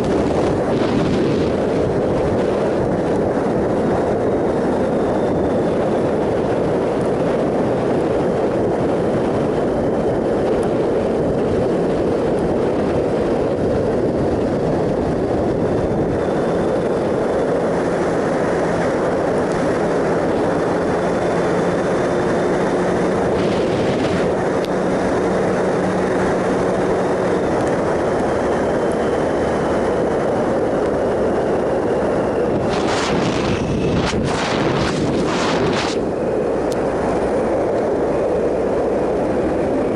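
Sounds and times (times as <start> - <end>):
motorcycle engine humming: 0.0 - 39.9
wind buffets: 0.0 - 39.9
wind rushing over microphone: 0.0 - 39.9.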